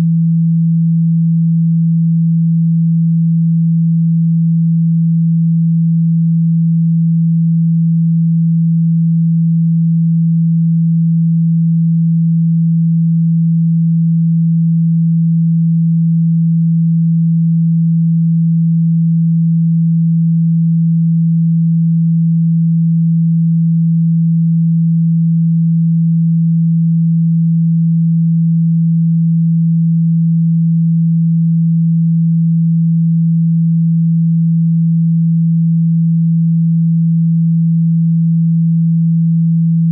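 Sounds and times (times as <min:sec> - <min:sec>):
low sine-wave tone: 0:00.0 - 0:39.9.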